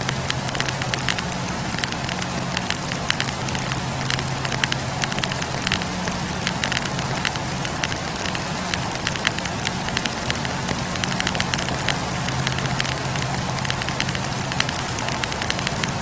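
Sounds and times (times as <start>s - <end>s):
low steady hum: 0.0s - 16.0s
steady hiss: 0.0s - 16.0s
wood fire crackling: 0.0s - 16.0s.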